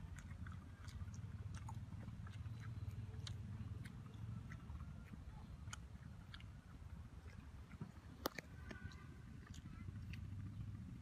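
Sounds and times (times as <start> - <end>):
low steady rumble: 0.0 - 11.0
person chewing crusty bread: 0.0 - 11.0.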